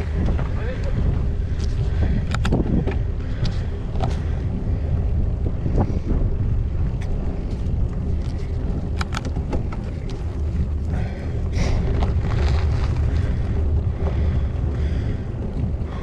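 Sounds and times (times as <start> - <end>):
bike clicks and rattles: 0.0 - 16.0
wind buffeting microphone: 0.0 - 16.0.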